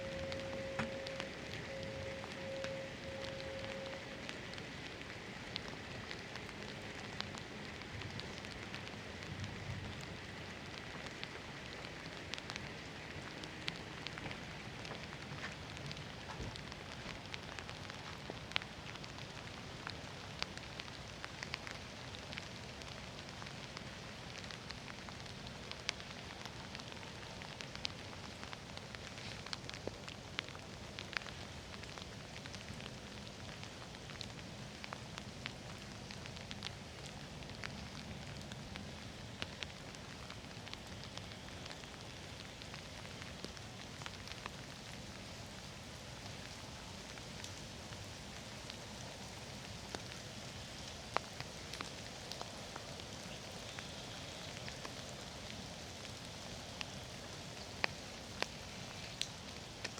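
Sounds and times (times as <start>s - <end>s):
rain drops ticking close by: 0.0s - 59.9s
steady rain falling: 0.0s - 59.9s.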